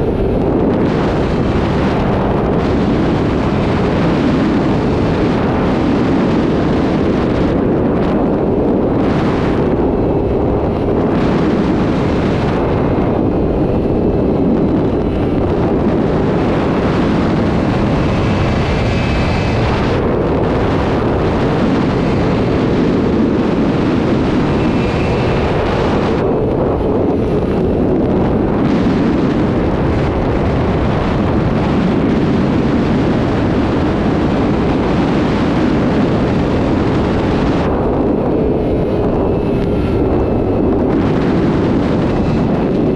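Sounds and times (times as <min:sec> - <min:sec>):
faint high whines: 0:00.0 - 0:42.9
motorcycle engine at speed: 0:00.0 - 0:42.9
wind rush on microphone: 0:00.0 - 0:42.9.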